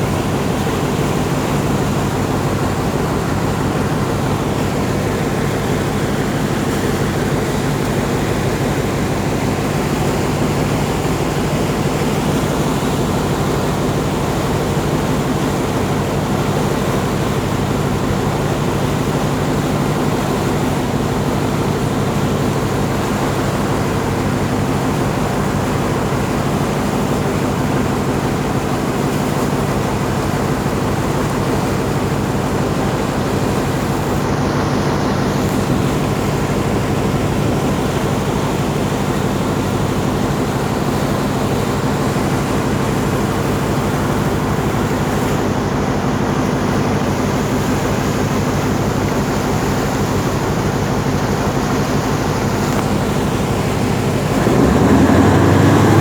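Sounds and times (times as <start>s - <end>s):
boat engine running: 0.0s - 56.0s
water rushing: 0.0s - 56.0s.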